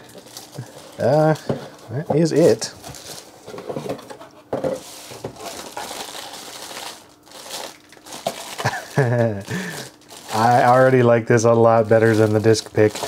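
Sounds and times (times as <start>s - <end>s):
cardboard packaging rustling: 0.0s - 13.0s
plastic shrink-wrap crinkling: 0.0s - 13.0s.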